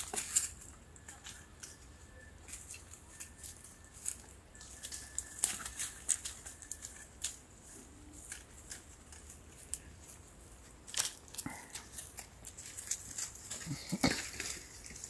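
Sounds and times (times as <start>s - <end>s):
twigs and leaves crackling: 0.0s - 15.0s.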